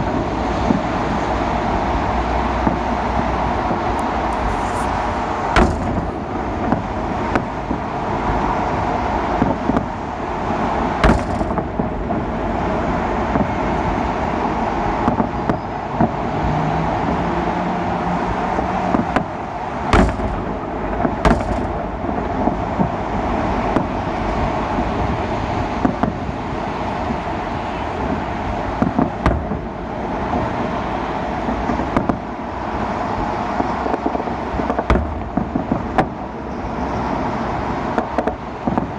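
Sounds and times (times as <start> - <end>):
city traffic noise: 0.0 - 38.9
fireworks bangs: 2.6 - 16.3, 18.6 - 38.9.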